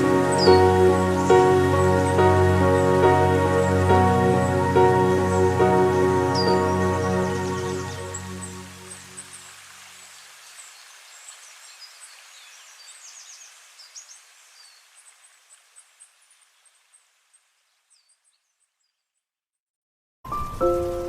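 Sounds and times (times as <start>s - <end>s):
outdoor ambience hiss: 0.0s - 19.1s, 20.3s - 21.0s
small birds chirping: 0.0s - 19.3s.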